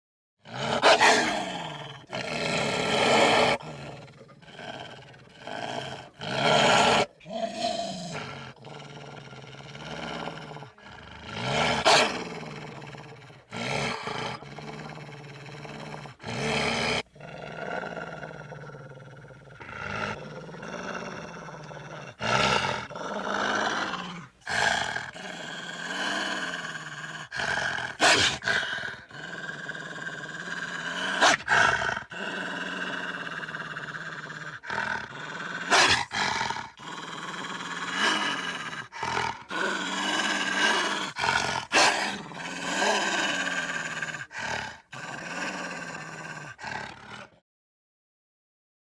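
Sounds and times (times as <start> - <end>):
animal roars and growls: 0.4 - 47.4.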